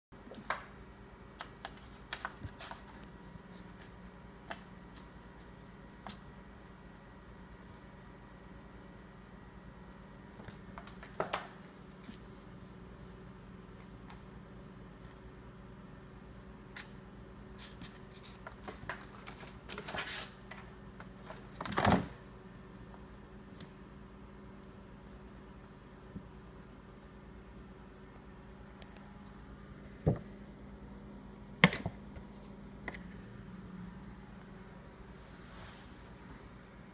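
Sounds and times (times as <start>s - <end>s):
faint steady hum: 0.2s - 36.9s.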